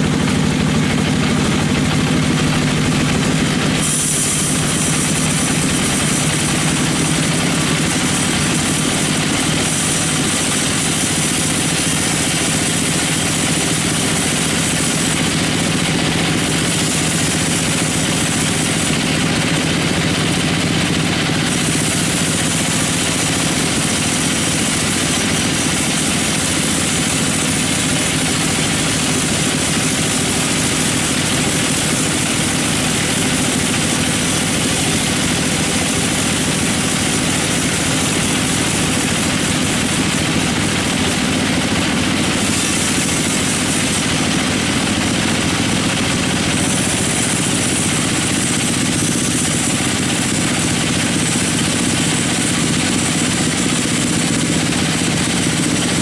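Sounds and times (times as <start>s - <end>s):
sawmill machinery engine drone: 0.0s - 56.0s.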